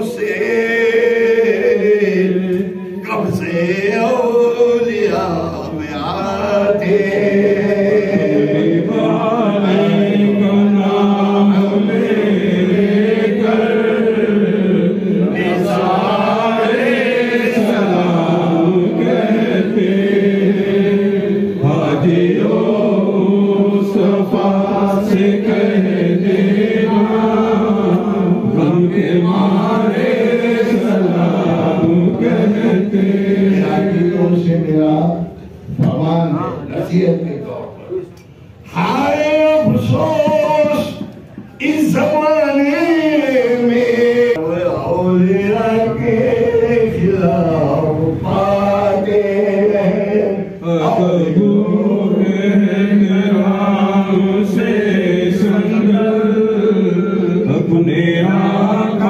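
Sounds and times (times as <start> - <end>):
men chanting a hymn: 0.0 - 59.0.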